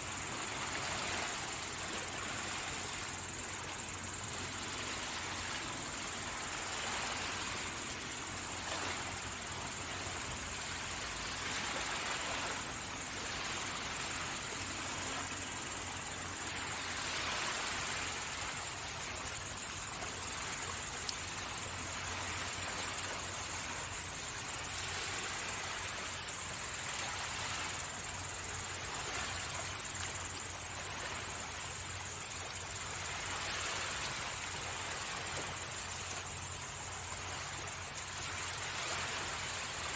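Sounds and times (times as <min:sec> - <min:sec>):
high-pitched insect trilling: 0:00.0 - 0:39.9
higher insect trill: 0:00.0 - 0:39.9
sea waves washing onto shore: 0:00.0 - 0:39.9.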